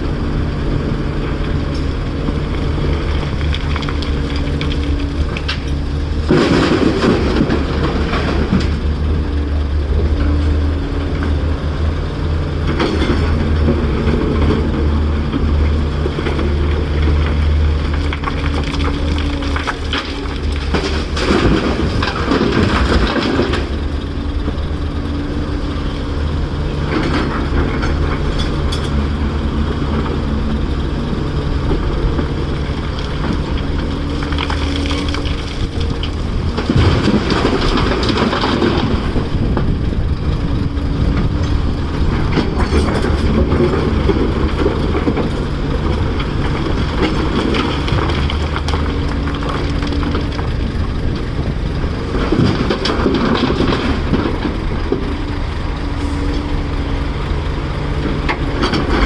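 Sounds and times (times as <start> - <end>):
excavator diesel engine running: 0.0 - 59.0
rock and dirt clattering: 0.0 - 59.0.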